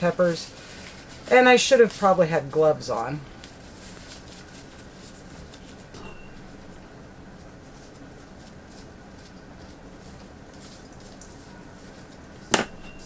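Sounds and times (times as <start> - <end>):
faint handling rustles: 0.0 - 13.0.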